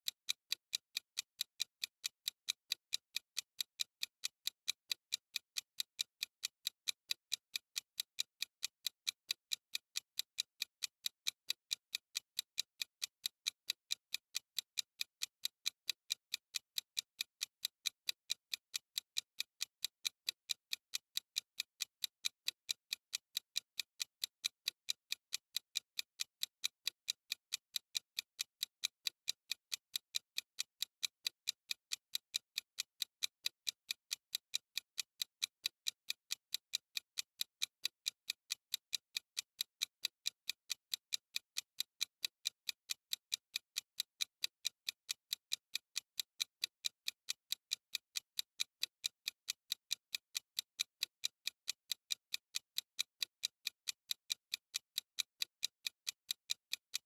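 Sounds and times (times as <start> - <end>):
fast clock ticking: 0.0 - 57.0.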